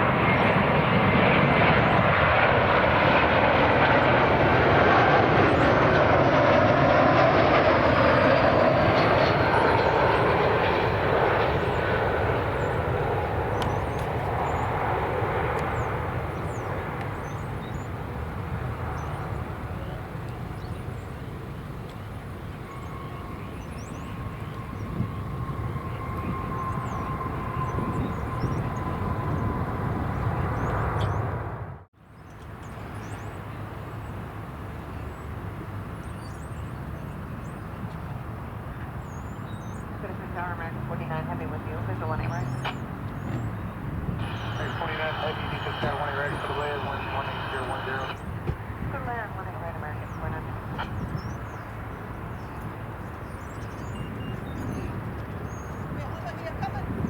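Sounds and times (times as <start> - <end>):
jet airliner passing: 0.0 - 31.9, 32.7 - 57.0
steady engine whine: 0.0 - 31.9, 37.8 - 57.0.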